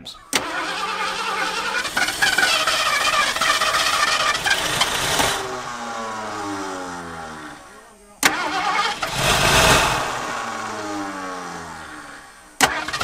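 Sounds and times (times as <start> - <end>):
engine firing roughly on starter: 0.2 - 13.0
rushing blowing sound: 0.2 - 13.0.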